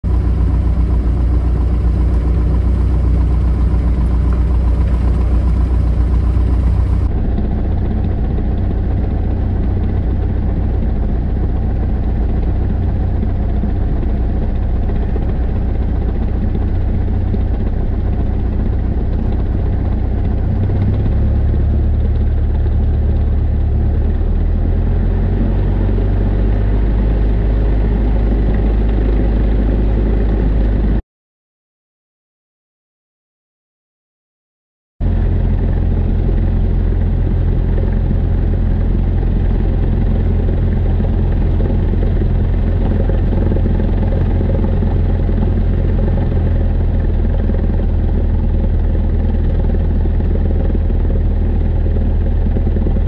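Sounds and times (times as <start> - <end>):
propeller aircraft engine idling: 0.0 - 31.0, 35.0 - 53.0.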